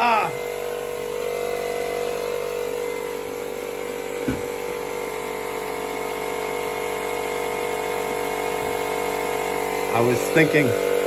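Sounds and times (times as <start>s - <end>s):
air inflator humming: 0.0s - 11.0s.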